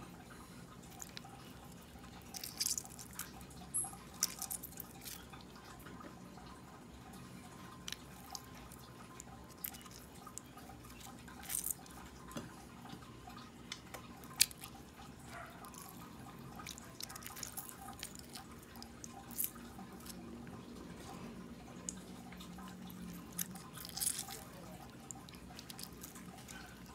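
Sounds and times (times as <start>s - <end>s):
juice dripping through strainer: 0.0s - 26.9s.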